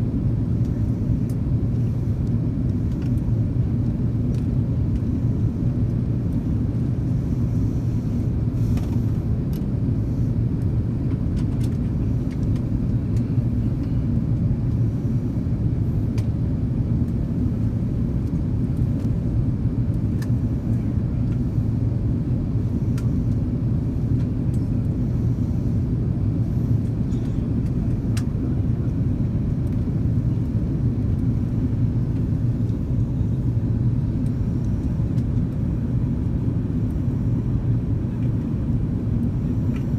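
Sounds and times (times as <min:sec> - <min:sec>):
airliner engine and airflow rumble: 0:00.0 - 0:39.9.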